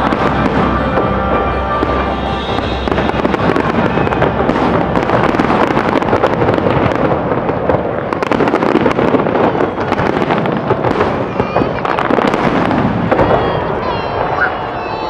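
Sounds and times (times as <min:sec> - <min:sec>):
fireworks shells bursting: 0:00.0 - 0:13.7
fireworks crackling: 0:00.0 - 0:15.0.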